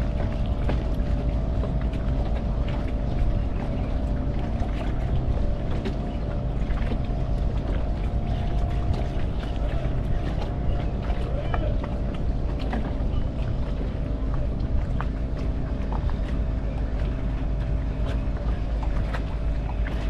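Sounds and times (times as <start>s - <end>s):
boat engine running: 0.0s - 20.0s
water splashing against hull: 0.0s - 20.0s.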